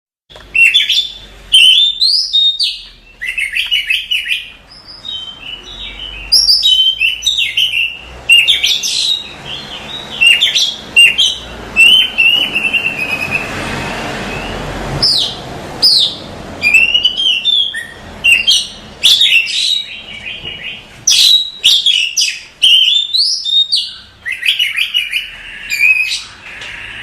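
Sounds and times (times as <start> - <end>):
bird singing whistles and chirps: 0.5 - 27.0.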